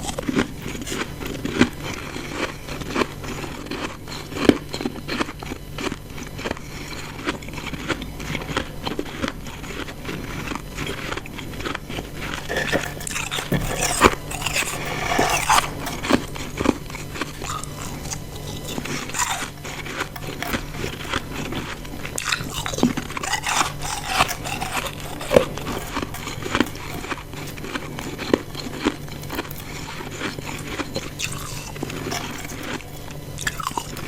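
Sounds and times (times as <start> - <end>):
crunching and chewing ice: 0.0 - 34.0.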